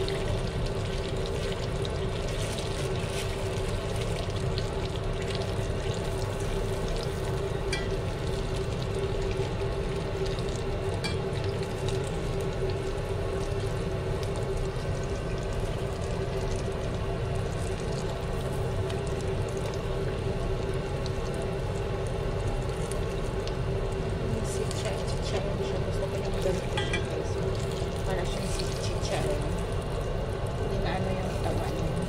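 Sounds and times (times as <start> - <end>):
constant hum: 0.0 - 32.0
deep-frying sizzling and crackling: 0.0 - 32.0.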